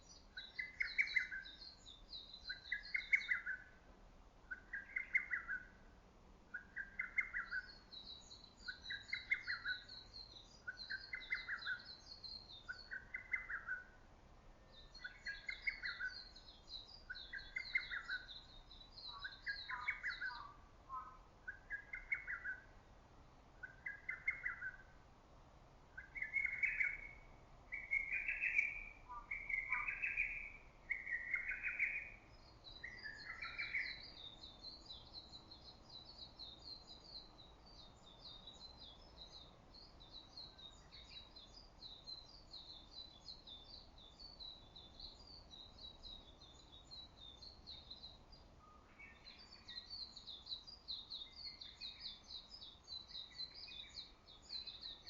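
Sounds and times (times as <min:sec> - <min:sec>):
small bird chattering song: 0:00.0 - 0:03.7, 0:04.5 - 0:05.8, 0:06.6 - 0:14.0, 0:14.7 - 0:22.8, 0:23.6 - 0:25.0, 0:26.0 - 0:55.0.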